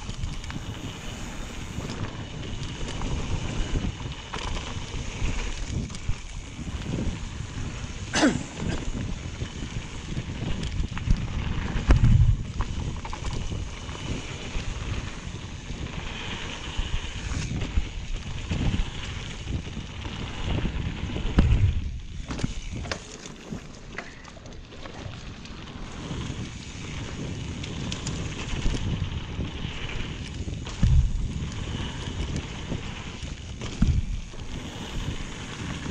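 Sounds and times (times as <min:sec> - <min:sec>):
bike rattling: 0:00.0 - 0:35.9
wind on microphone: 0:00.0 - 0:35.9.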